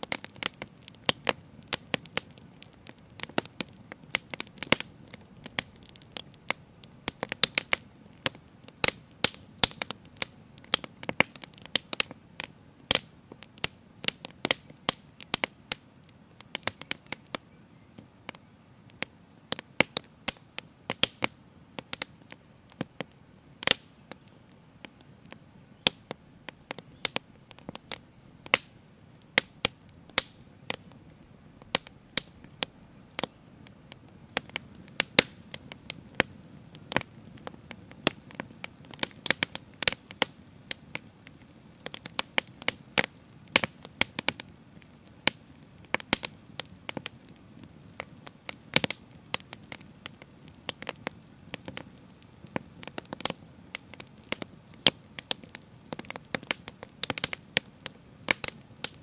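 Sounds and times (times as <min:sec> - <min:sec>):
faint low hiss: 0:00.0 - 0:59.0
open fire crackling and popping: 0:00.0 - 0:59.0.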